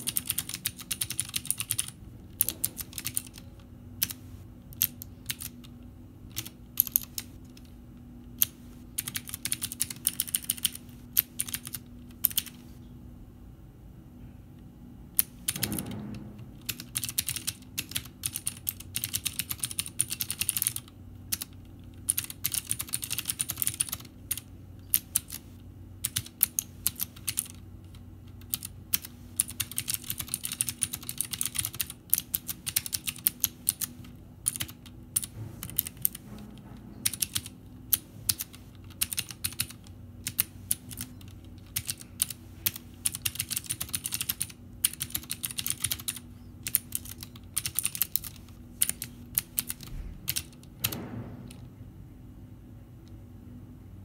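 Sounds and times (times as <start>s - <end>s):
clicky mechanical keyboard typing: 0.0s - 12.6s, 15.2s - 15.9s, 16.6s - 36.2s, 37.0s - 51.6s.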